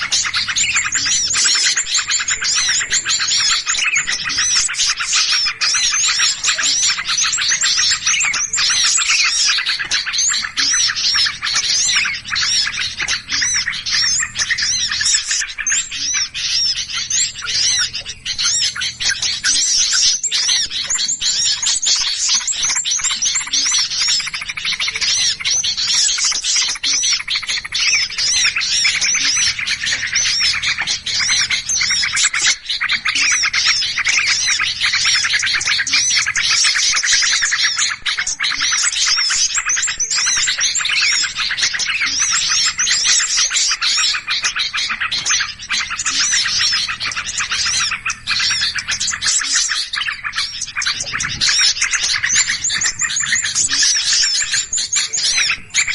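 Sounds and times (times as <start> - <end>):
small songbirds chirping: 0.0 - 55.9.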